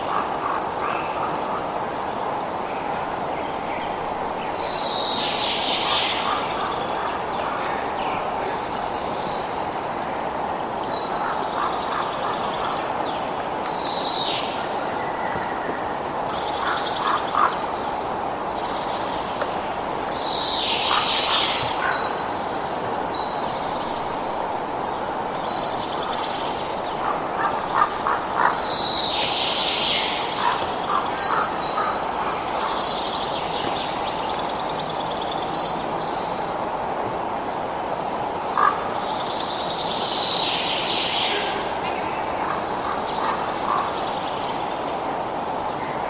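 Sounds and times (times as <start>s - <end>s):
wild birds chirping and trilling: 0.0s - 36.6s, 38.2s - 46.0s.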